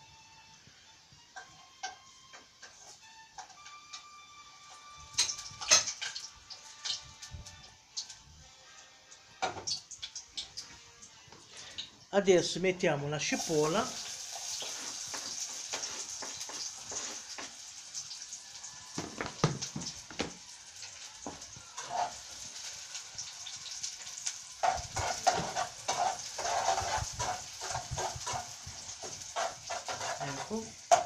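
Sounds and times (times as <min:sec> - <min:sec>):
onion sizzling in hot oil: 0:00.1 - 0:31.0.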